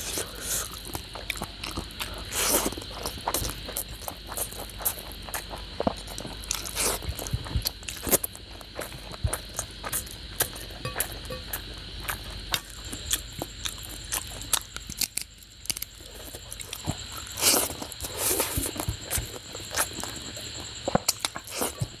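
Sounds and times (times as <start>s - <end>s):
faint steady high whine: 0.0s - 22.0s
wet chewing and lip-smacking: 0.1s - 22.0s.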